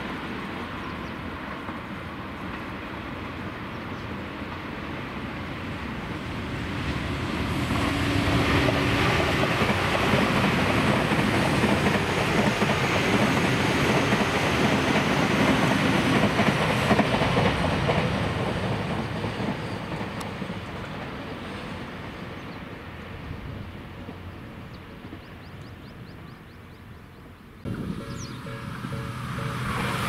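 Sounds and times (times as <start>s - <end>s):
electric train passing: 0.0s - 26.5s, 27.6s - 30.0s.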